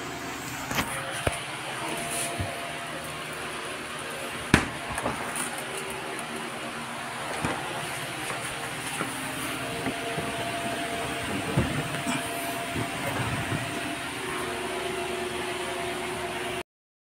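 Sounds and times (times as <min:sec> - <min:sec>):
refrigerator humming: 0:00.0 - 0:16.6.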